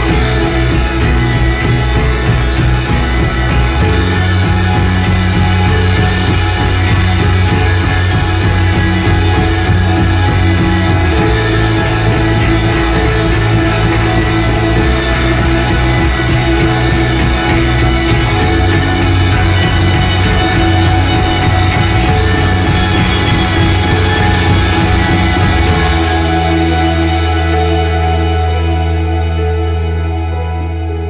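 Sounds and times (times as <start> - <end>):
background music with steady beat: 0.0 - 29.8.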